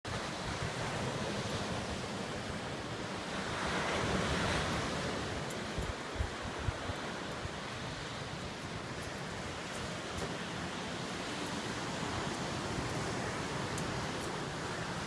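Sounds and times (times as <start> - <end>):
ocean surf washing: 0.1 - 15.0.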